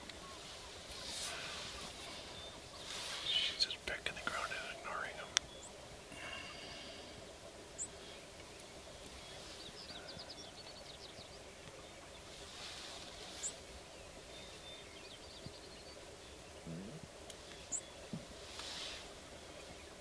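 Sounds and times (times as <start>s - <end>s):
rustling hisses: 0.0s - 10.8s, 11.4s - 14.9s, 17.0s - 20.0s
low steady background noise: 0.0s - 20.0s.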